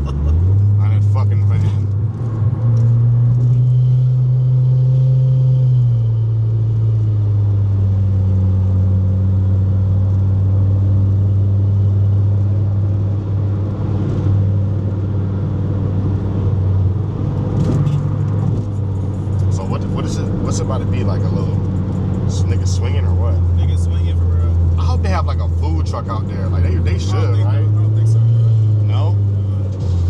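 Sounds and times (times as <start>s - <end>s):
car engine and road drone: 0.0s - 30.0s.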